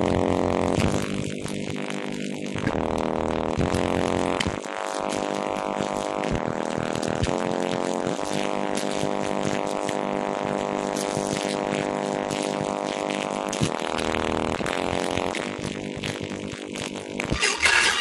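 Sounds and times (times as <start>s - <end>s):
distorted subwoofer bass drone: 0.0s - 18.0s.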